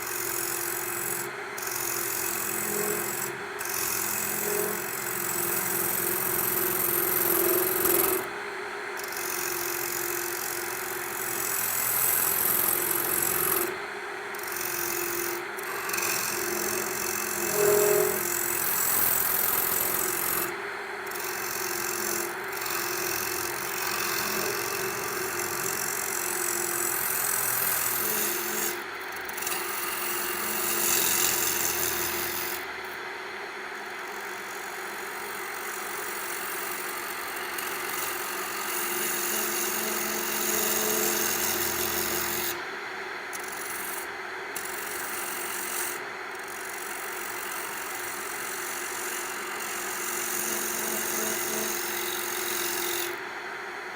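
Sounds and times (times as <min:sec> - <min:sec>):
tool cutting wood hiss: 0:00.0 - 0:33.0, 0:33.8 - 0:53.2
wood lathe humming: 0:00.0 - 0:53.9.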